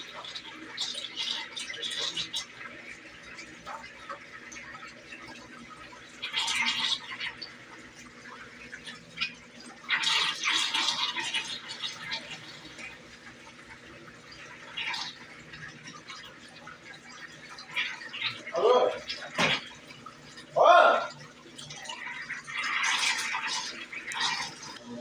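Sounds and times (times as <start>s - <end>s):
washing machine water sloshing: 0.0s - 25.0s.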